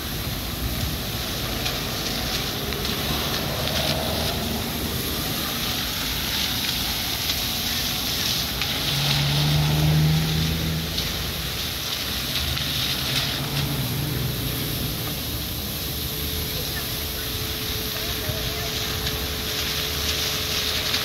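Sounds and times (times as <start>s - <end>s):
cars passing on wet road: 0.0s - 21.0s
vehicle engine hum: 0.0s - 21.0s
water jetting hiss: 0.0s - 21.0s.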